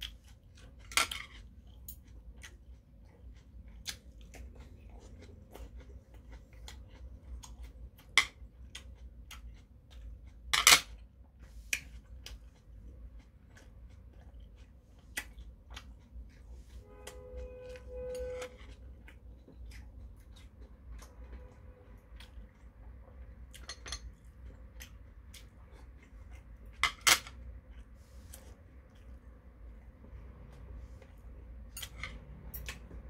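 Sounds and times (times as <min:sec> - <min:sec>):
wet chewing: 0:00.0 - 0:17.8, 0:18.6 - 0:33.0.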